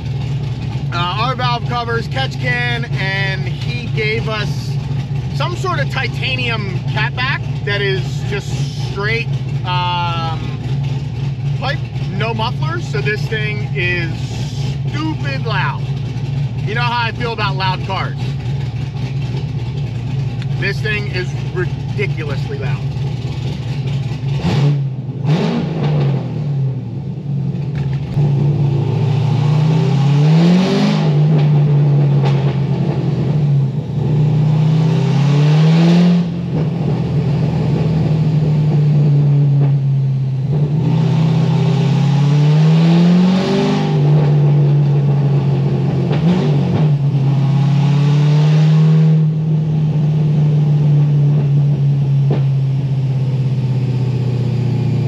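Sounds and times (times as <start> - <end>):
loud car engine revving: 0.0 - 55.0.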